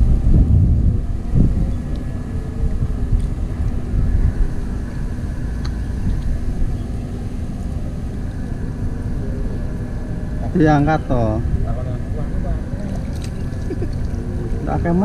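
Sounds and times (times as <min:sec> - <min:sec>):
faint constant hum: 0:00.0 - 0:15.0
low outdoor rumble: 0:00.0 - 0:15.0.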